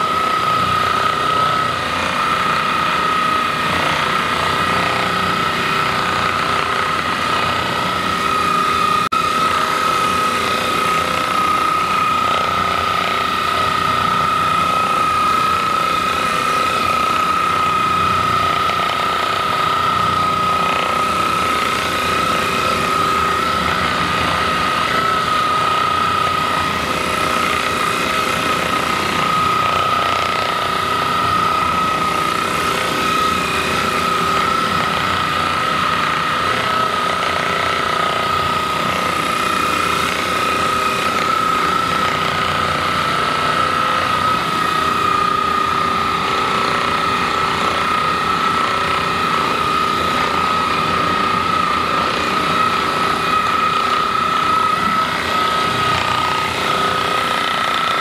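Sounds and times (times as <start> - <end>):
massage gun motor whine: 0.0 - 58.0.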